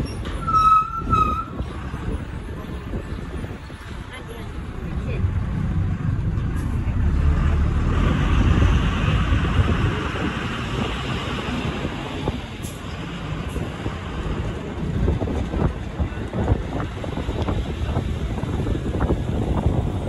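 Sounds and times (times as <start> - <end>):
bus engine and road rumble: 0.0 - 20.0
wind and tyre hiss: 0.0 - 20.0.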